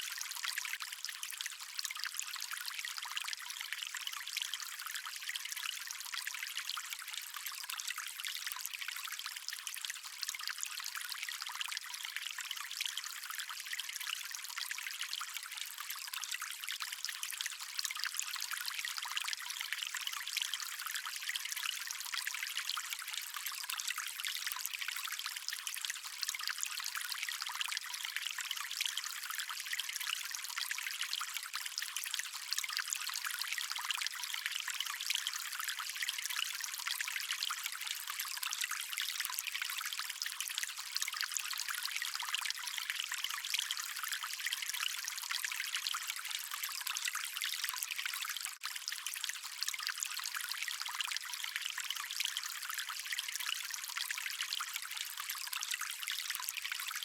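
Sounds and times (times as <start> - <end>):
stream water over rocks: 0.0 - 57.0.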